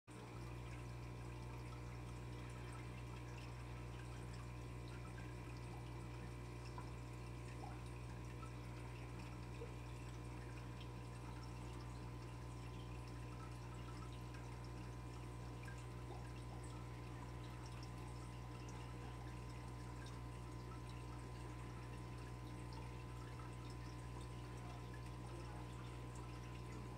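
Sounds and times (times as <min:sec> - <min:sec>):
water trickling: 0:00.1 - 0:26.9.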